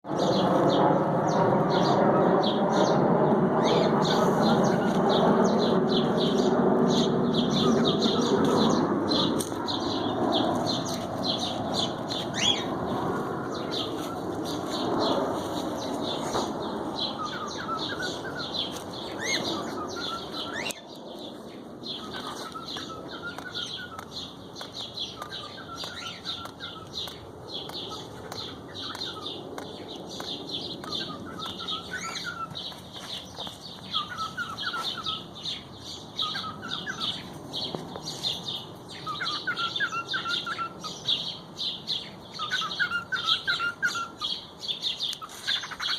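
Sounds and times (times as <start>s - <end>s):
birds chirping rapidly: 0.0s - 45.9s
broad rushing noise: 0.0s - 45.9s.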